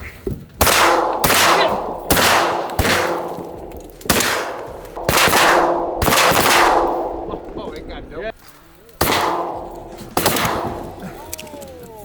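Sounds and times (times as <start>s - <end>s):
shotgun blasts with rolling echo: 0.6s - 11.4s.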